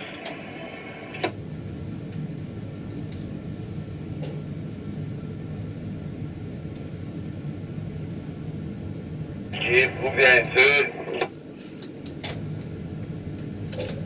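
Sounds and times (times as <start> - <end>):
crane machinery rumble and hum: 0.0 - 14.0.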